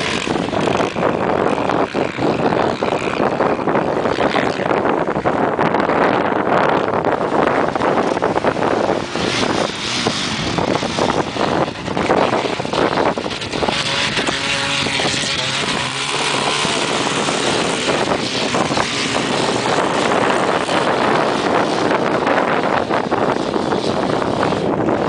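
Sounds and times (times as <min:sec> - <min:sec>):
off-road vehicles driving on sand: 0:00.0 - 0:25.0
quad bike engine: 0:00.0 - 0:25.0
wind noise on microphone: 0:00.0 - 0:25.0.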